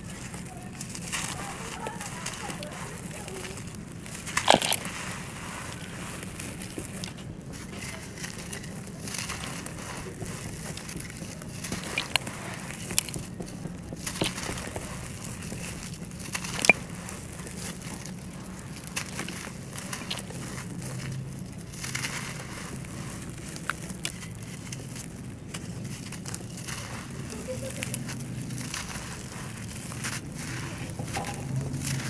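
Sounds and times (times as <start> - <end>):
chunks cracking: 0.0 - 32.0
grit pouring crackle: 0.0 - 32.0
sand blocks crushed by hand: 0.0 - 32.0.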